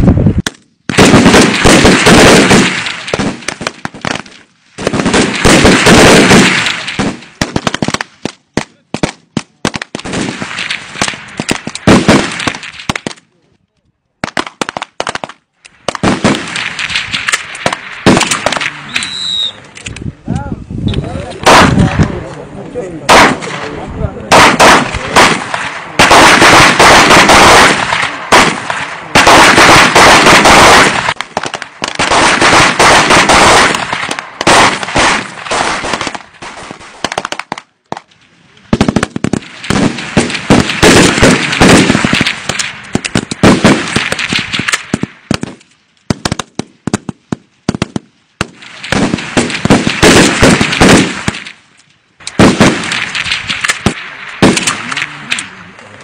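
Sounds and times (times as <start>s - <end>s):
gunshots: 0.4s - 13.3s, 14.2s - 19.6s, 21.1s - 56.0s.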